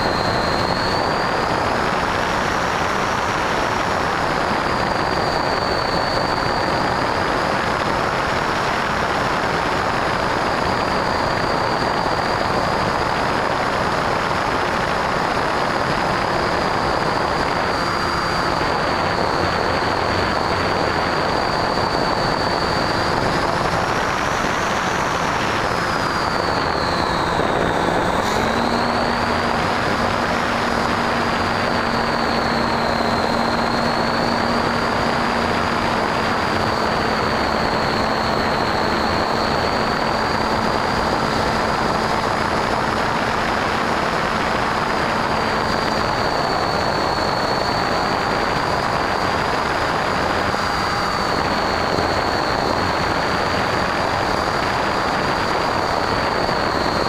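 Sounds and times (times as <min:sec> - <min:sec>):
high motor whine: 0:00.0 - 0:57.0
low hum: 0:00.0 - 0:57.0
wind rush: 0:00.0 - 0:57.0.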